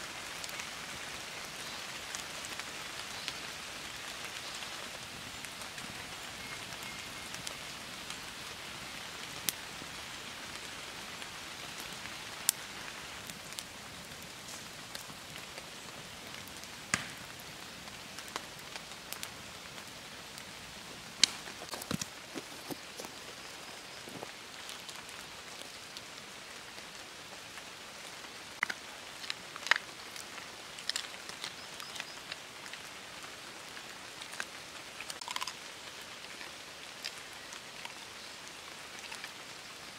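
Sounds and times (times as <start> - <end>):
campfire popping and crackling: 0.0 - 39.9
rain pattering on leaves: 0.0 - 39.9.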